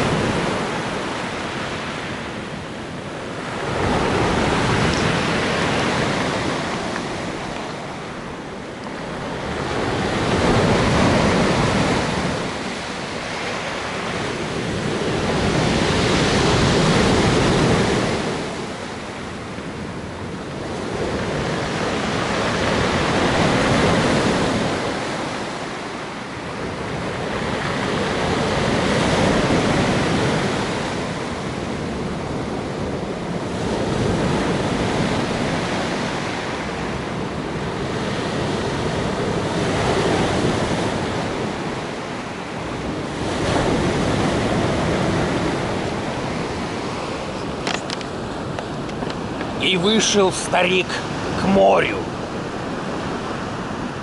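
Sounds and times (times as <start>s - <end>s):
sea surf washing onto shore: 0.0s - 54.0s.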